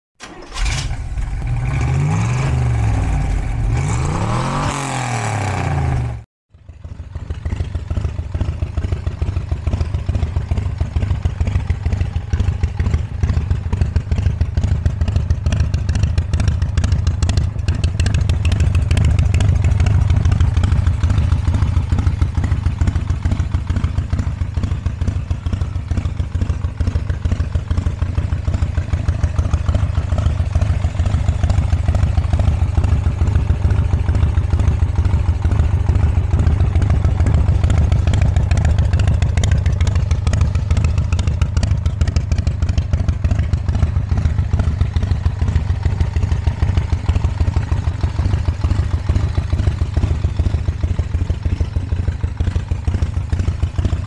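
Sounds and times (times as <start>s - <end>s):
motorcycle engine revving: 0.2s - 54.0s
motorcycle engine idling: 5.9s - 54.0s.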